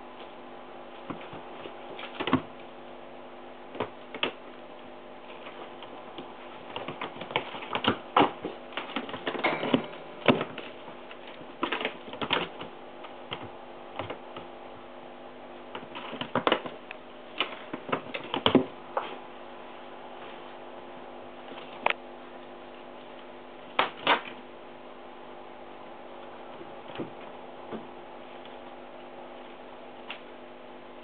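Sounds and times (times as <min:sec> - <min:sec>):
faint hum: 0:00.0 - 0:31.0.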